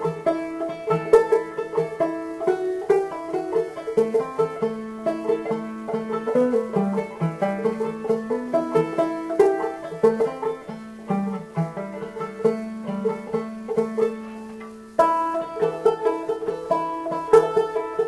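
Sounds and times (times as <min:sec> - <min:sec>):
banjo playing quick plucked notes: 0:00.0 - 0:18.0.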